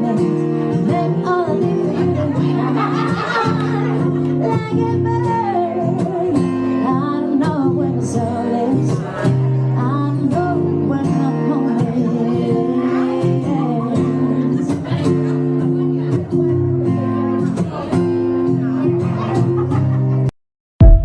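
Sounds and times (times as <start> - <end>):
acoustic guitar playing chords: 0.0 - 21.0.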